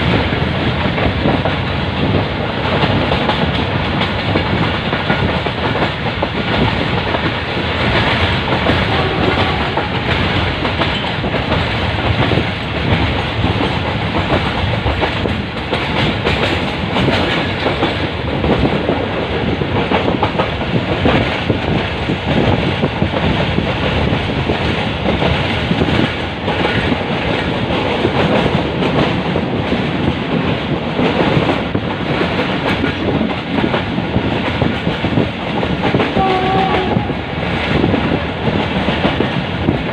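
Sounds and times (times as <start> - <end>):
passenger train running on track: 0.0 - 39.9
wheels clattering on rails: 0.0 - 39.9.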